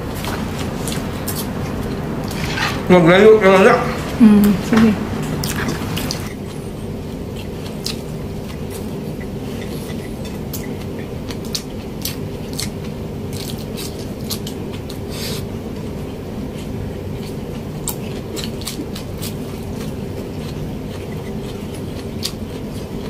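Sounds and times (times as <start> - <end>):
steady low hum: 0.0 - 23.0
person chewing: 0.1 - 2.9, 3.9 - 23.0.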